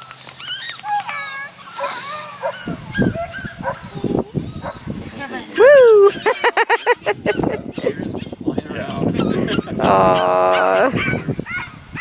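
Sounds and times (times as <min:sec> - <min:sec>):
puppies whining and yipping: 0:00.0 - 0:05.0, 0:05.6 - 0:12.0.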